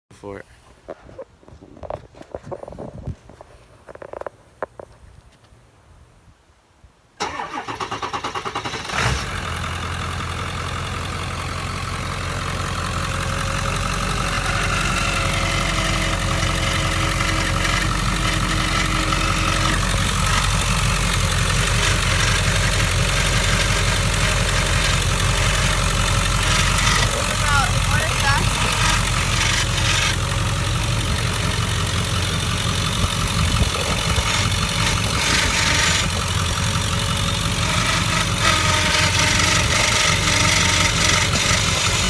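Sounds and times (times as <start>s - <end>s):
diesel engine cranking on starter: 7.2s - 42.0s
diesel engine idling: 7.2s - 42.0s.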